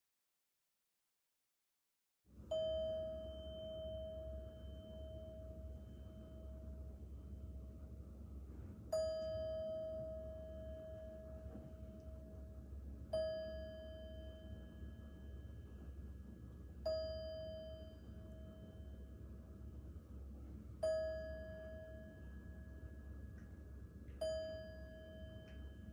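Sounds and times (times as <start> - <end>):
singing bowl ringing: 2.5 - 7.6, 8.9 - 19.6, 20.8 - 25.9.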